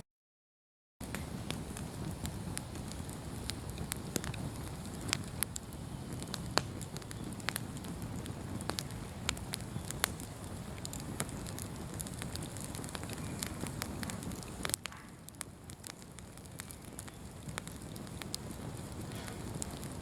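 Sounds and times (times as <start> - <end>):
bonfire crackling and popping: 1.0 - 20.0
low rush of burning: 1.0 - 20.0.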